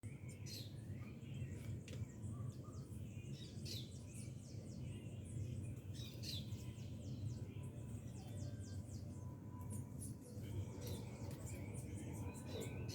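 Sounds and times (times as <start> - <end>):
wild birds chirping and singing: 0.0 - 12.9.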